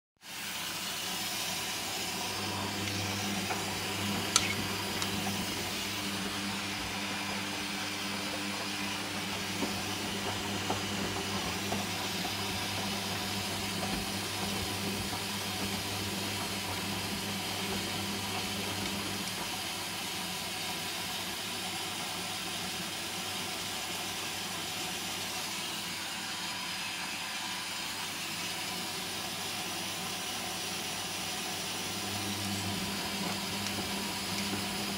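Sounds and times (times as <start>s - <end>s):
washing machine water hiss: 0.2s - 8.8s, 9.7s - 34.9s.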